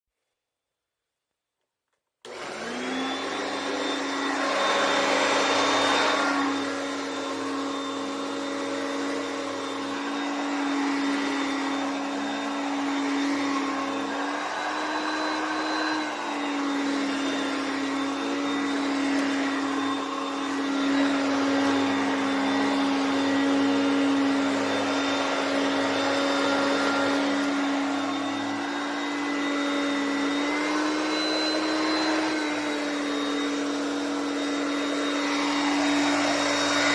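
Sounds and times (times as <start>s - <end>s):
vacuum cleaner running: 2.2s - 36.9s.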